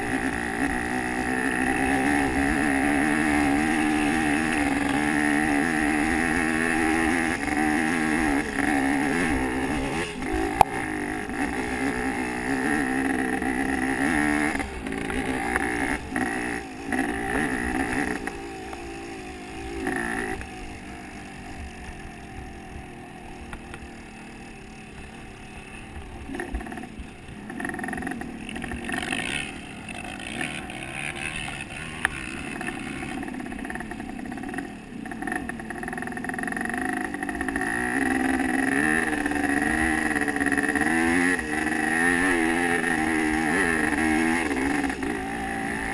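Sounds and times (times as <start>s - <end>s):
motorbike engine revving: 0.0s - 45.9s.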